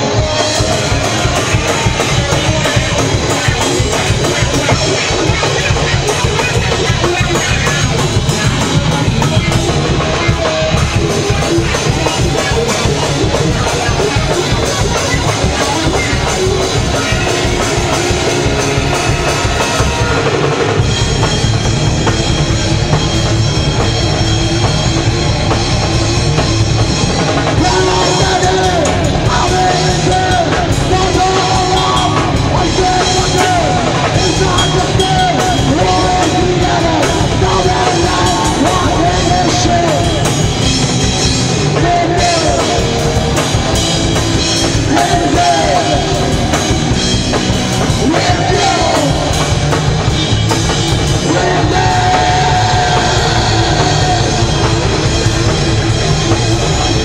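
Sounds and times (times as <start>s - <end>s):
drum kit with cymbal crashes: 0.0s - 57.0s
electric guitar through amplifiers: 0.0s - 57.0s.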